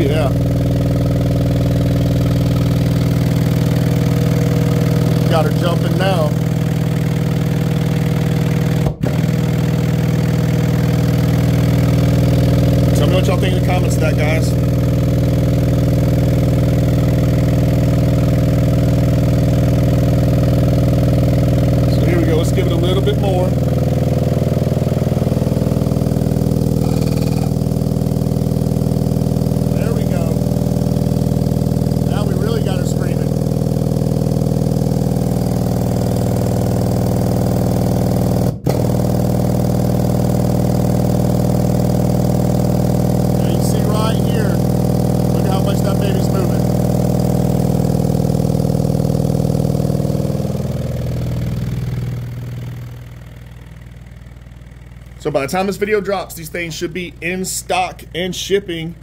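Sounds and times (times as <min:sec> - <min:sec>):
subwoofer buzzy test tone drone: 0:00.0 - 0:59.0.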